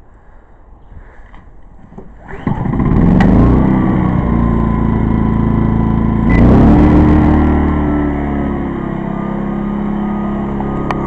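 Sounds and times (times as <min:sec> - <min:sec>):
generator engine running: 0:02.1 - 0:11.0.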